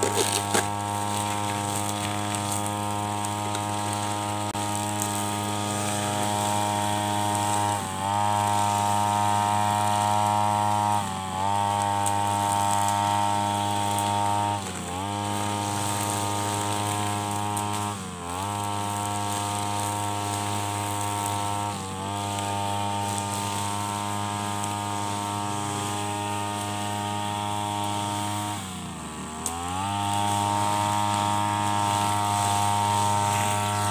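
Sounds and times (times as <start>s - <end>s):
brush cutter engine running: 0.0s - 33.9s.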